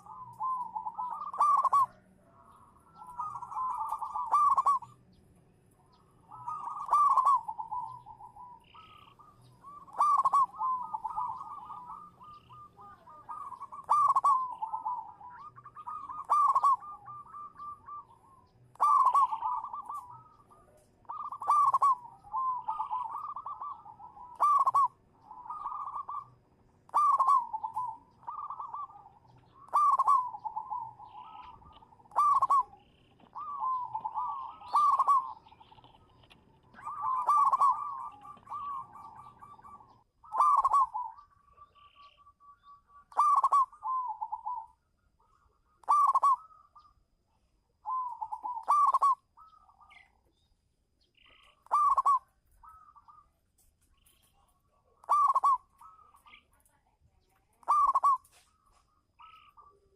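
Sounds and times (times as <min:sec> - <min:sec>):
dove cooing: 0:00.0 - 0:05.2, 0:05.8 - 0:50.5, 0:51.1 - 0:53.4, 0:54.0 - 0:59.9.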